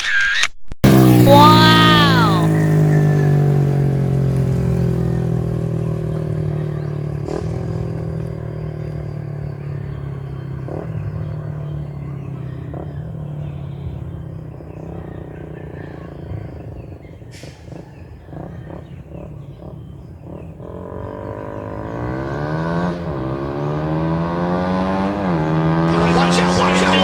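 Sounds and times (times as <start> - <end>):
motorcycle engine pulling away: 0.8 - 27.0.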